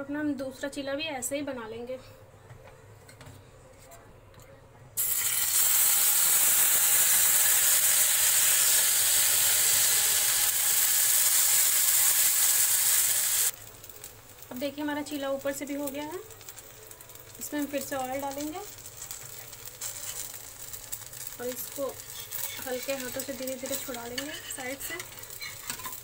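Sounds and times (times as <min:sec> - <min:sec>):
batter sizzling on hot pan: 0:05.0 - 0:26.0.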